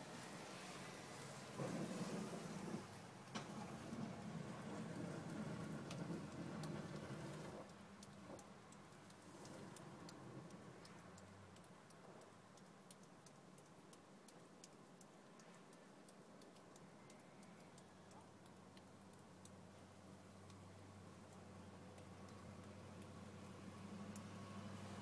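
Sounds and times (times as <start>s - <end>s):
faint ticks: 3.2s - 25.0s.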